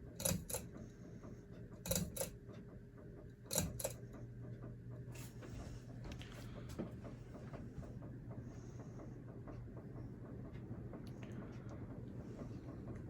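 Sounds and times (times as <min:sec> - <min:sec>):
fan motor faint hum: 0:00.0 - 0:13.0.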